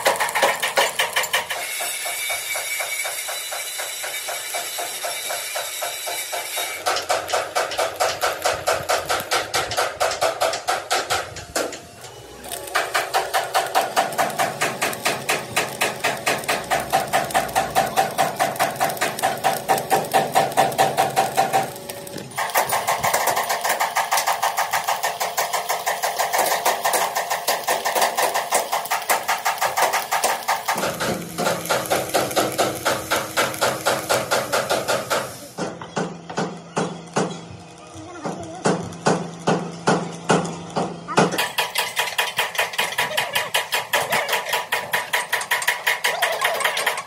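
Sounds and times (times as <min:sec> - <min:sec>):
machine knocking rhythmically: 0:00.0 - 0:11.8, 0:12.7 - 0:47.0.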